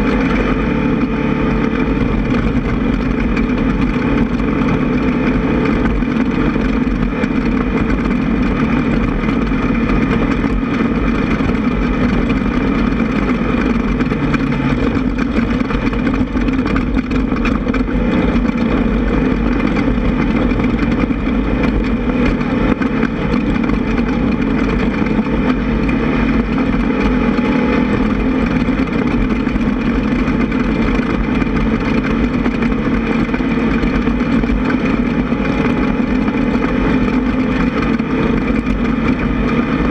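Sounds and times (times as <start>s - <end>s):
buggy engine running hard: 0.0s - 39.9s.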